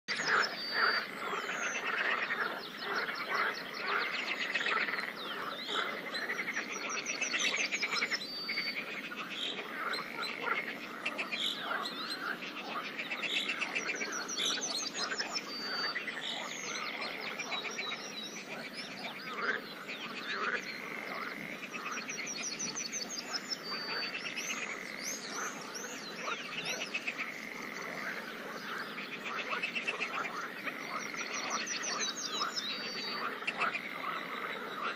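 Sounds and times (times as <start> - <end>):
frogs croaking: 0.1 - 34.9.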